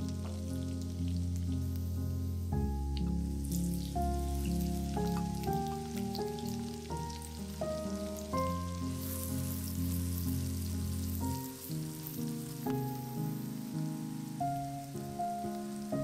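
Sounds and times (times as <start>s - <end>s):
onion sizzling in a pan: 0.0s - 16.0s.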